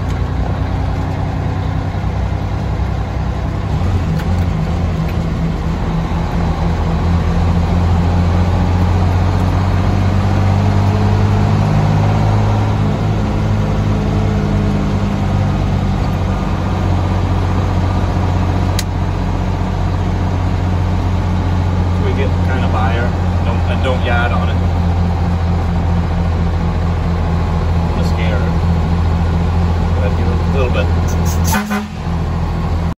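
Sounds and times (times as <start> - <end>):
truck engine drone from cab: 0.0 - 33.0.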